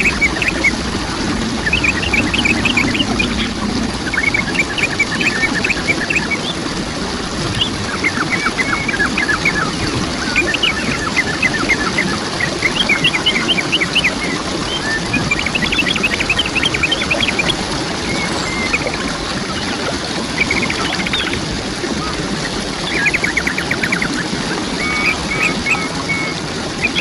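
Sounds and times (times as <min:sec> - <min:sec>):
small birds chirping: 0:00.0 - 0:00.8, 0:01.4 - 0:06.7, 0:07.4 - 0:21.4, 0:22.0 - 0:27.0
waterfall splashing: 0:00.0 - 0:27.0.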